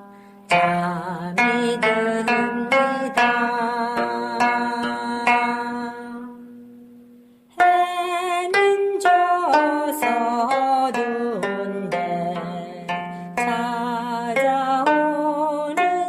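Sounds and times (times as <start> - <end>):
plucked zither notes: 0.0 - 16.0.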